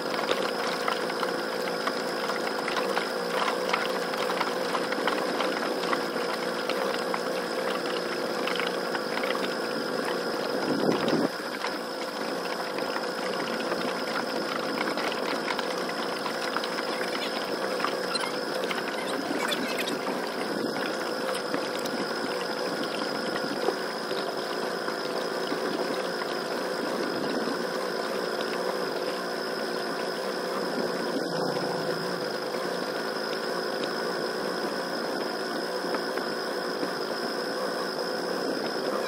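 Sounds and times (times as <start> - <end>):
small boat motor buzzing: 0.0 - 39.0.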